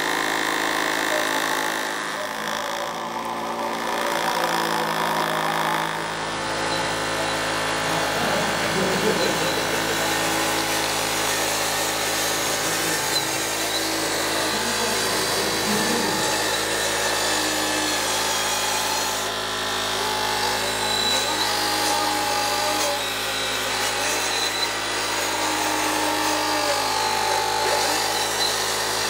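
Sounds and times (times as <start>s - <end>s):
motor-driven machine humming: 0.0s - 29.0s.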